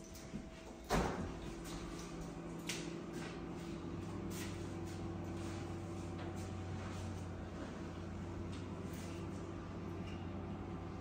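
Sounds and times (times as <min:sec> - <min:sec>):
refrigerator low hum: 0:00.0 - 0:11.0.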